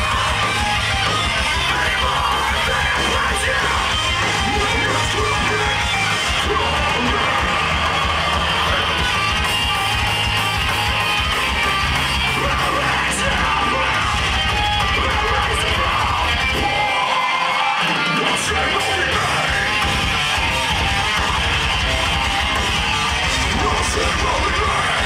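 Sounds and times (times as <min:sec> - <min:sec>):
loud live metal band: 0:00.0 - 0:25.0.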